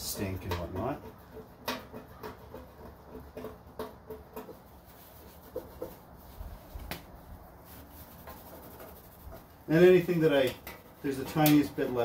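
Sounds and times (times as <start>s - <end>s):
paper towel rubbing metal lid: 0.0s - 12.0s.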